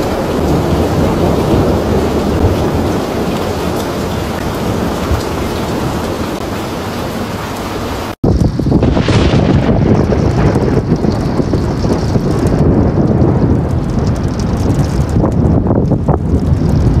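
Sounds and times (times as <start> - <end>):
rain: 0.0 - 17.0
wind buffeting microphone: 0.0 - 17.0.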